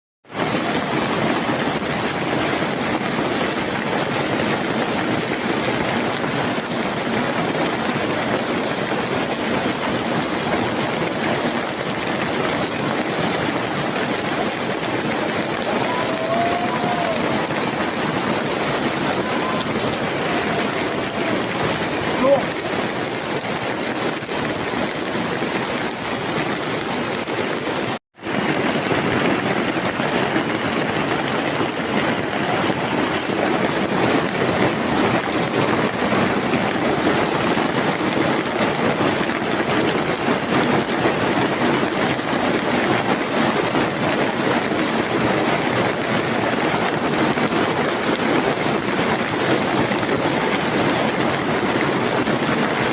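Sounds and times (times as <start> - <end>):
steady rain hiss: 0.3 - 52.9.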